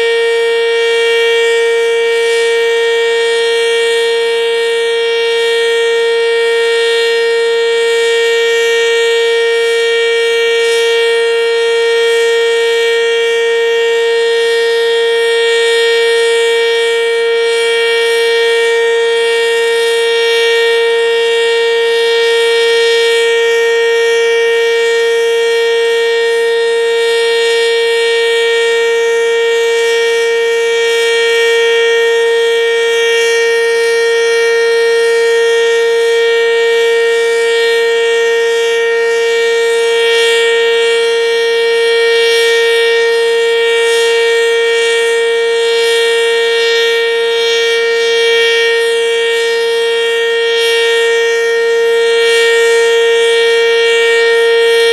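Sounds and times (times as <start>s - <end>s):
warning siren steady tone: 0.0s - 54.9s.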